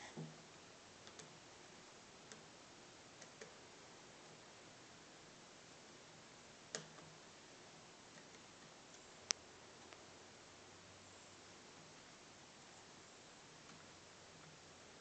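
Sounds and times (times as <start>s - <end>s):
quiet hiss: 0.0s - 15.0s.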